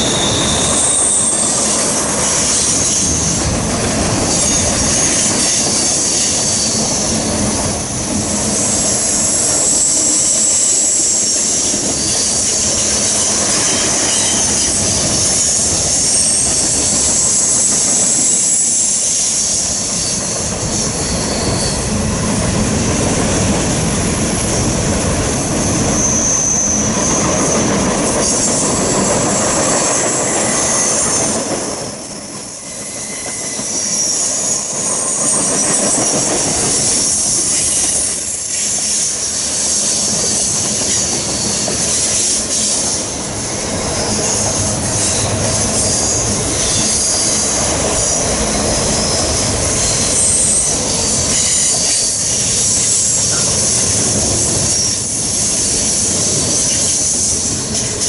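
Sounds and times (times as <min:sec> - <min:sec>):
high-pitched wheel squeal: 0:00.0 - 0:03.5, 0:04.1 - 0:07.4, 0:08.4 - 0:22.2, 0:25.4 - 0:31.5, 0:32.4 - 0:58.0
train wheels rumbling on rails: 0:00.0 - 0:58.0.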